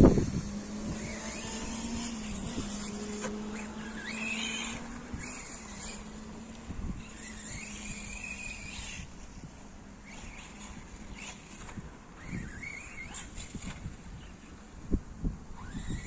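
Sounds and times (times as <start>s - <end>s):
electric toy car motor whining: 0.0s - 14.6s, 15.5s - 16.0s
wheel and ground noise: 0.0s - 16.0s.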